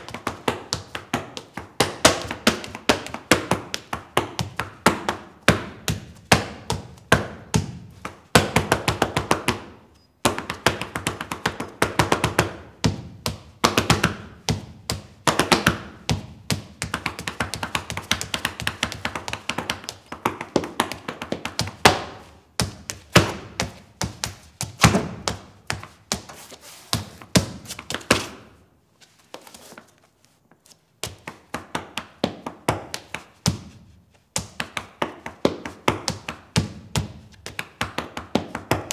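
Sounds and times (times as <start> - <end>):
rapid percussive foot stamps: 0.0 - 28.5, 31.0 - 38.9.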